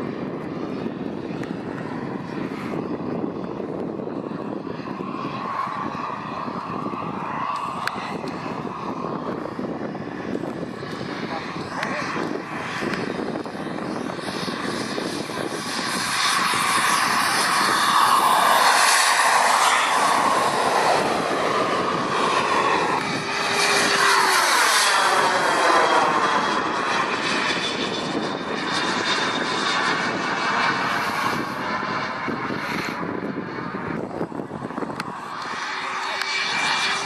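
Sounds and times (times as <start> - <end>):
model jet turbine whining: 0.0 - 37.0.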